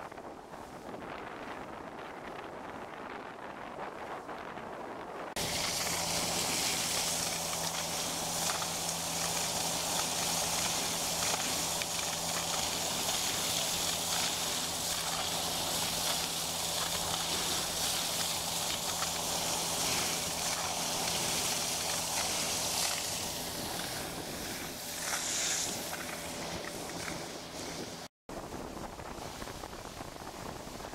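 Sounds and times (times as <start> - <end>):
water rushing along hull: 0.0 - 30.9
wind on microphone: 0.0 - 30.9
outboard motor running: 5.4 - 30.8.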